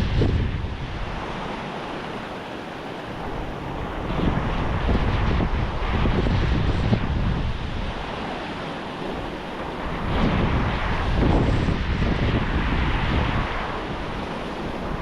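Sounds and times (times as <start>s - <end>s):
wind buffeting microphone: 0.0s - 2.4s, 3.0s - 15.0s
surf washing onto beach: 0.0s - 15.0s.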